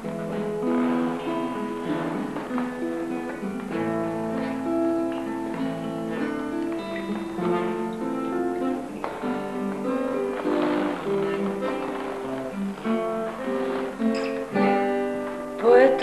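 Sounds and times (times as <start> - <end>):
acoustic guitars playing: 0.0 - 16.0.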